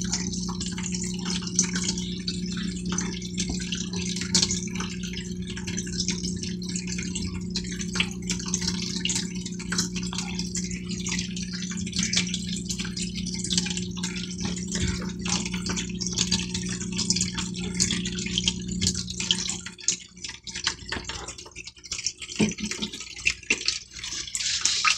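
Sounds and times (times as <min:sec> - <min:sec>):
water pump humming: 0:00.0 - 0:24.9
water trickling and dripping: 0:00.0 - 0:24.9.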